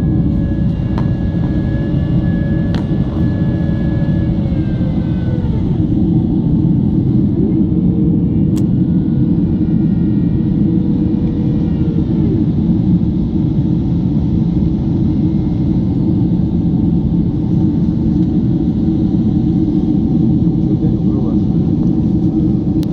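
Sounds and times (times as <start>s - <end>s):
airliner engines and airflow rumble: 0.0s - 22.9s
faint engine tones: 0.0s - 22.9s.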